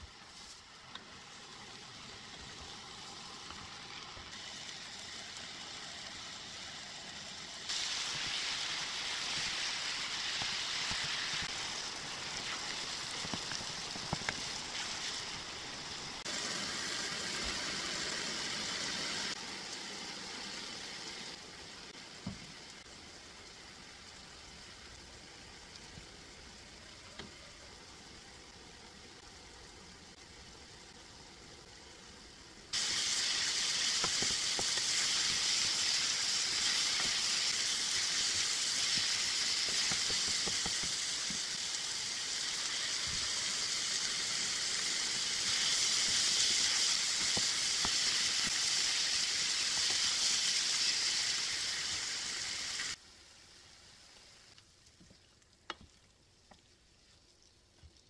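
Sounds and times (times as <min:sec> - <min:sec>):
meat and onion sizzling in pan: 0:00.0 - 0:55.2.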